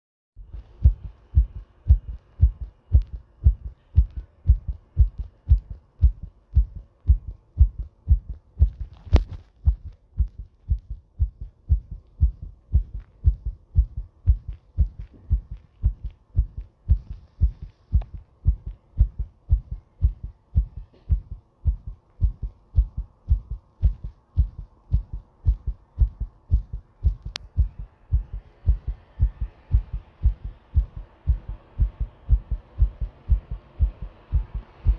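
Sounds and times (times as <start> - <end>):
heartbeat thumps: 0.4 - 34.9.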